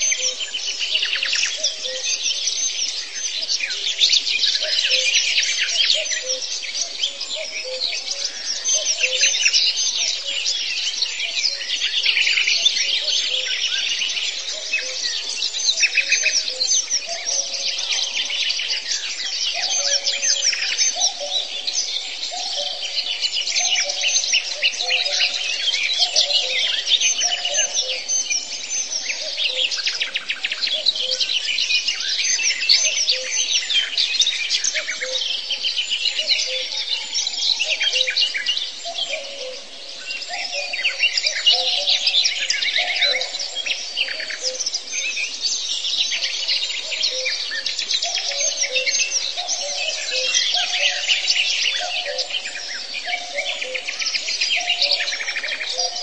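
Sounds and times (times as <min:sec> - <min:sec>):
dense bird chorus: 0:00.0 - 0:56.0.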